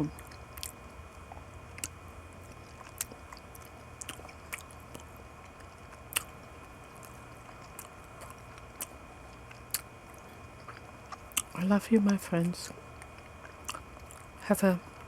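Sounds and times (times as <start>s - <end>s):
low steady hum: 0.0s - 15.0s
person chewing wetly: 0.1s - 14.4s.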